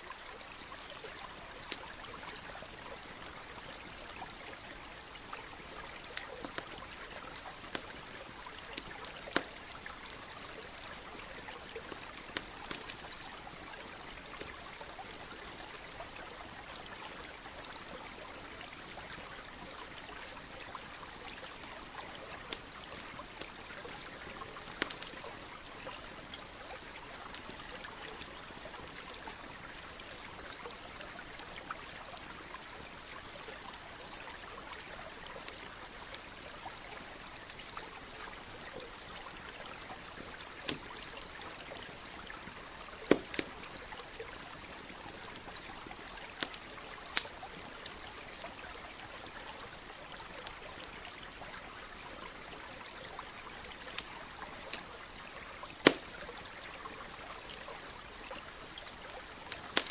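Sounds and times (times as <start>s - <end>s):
stream trickling: 0.0s - 59.9s
campfire crackling: 0.1s - 59.9s.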